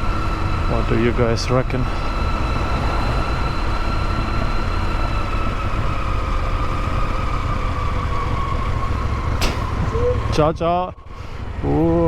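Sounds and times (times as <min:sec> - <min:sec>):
steady whine: 0:00.0 - 0:11.0
motorcycle engine rumble: 0:00.0 - 0:12.0.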